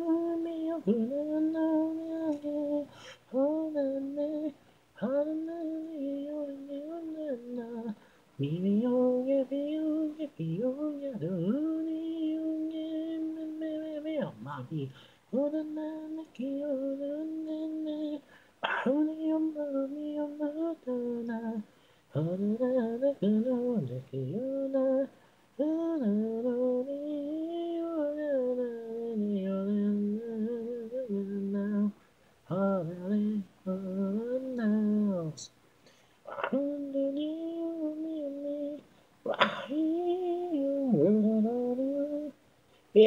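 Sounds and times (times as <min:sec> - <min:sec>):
person singing unaccompanied: 0:00.0 - 0:43.0.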